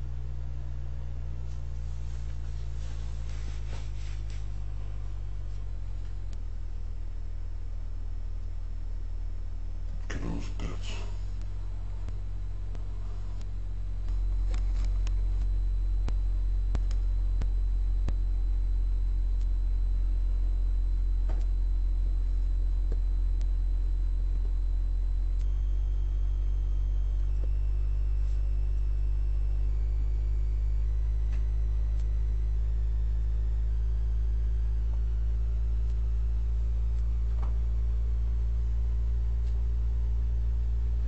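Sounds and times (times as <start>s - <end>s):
low electrical hum: 0.0s - 41.0s.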